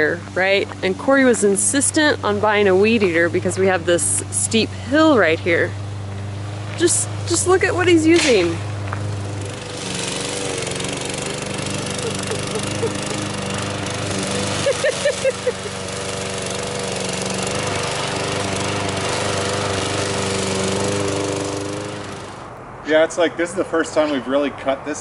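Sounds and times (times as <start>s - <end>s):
lawn mower cutting grass: 0.0s - 22.6s.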